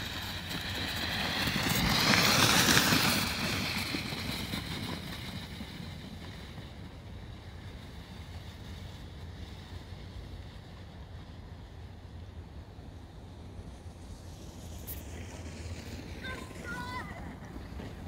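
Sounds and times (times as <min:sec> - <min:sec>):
snowboard scraping over snow: 0:00.0 - 0:11.4, 0:13.3 - 0:18.0.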